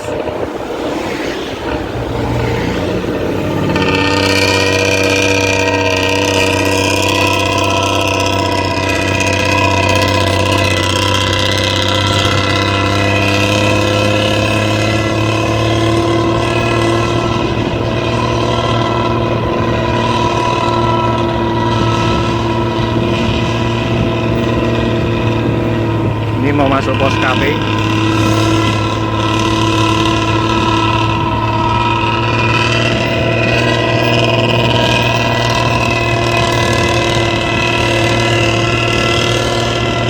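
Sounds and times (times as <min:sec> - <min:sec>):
bus diesel engine droning: 0:00.0 - 0:40.0.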